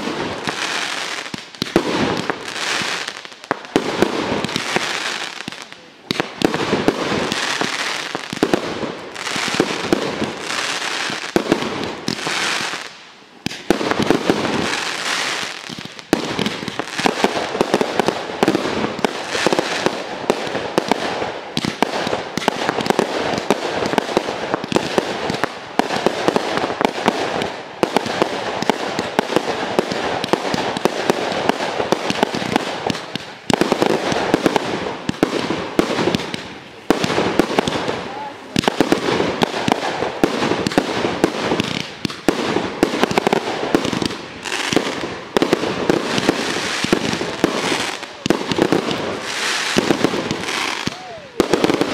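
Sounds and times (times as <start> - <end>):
fireworks crackling: 0.0 - 51.9
fireworks popping and banging: 0.0 - 51.9.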